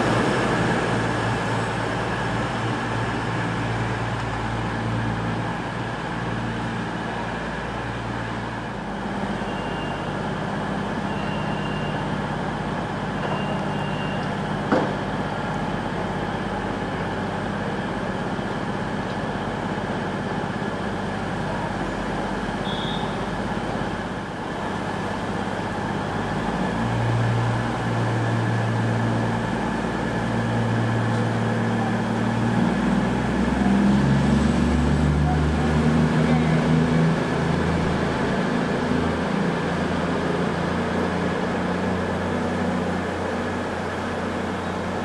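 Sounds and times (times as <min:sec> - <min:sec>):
diesel engines idling: 0:00.0 - 0:45.0.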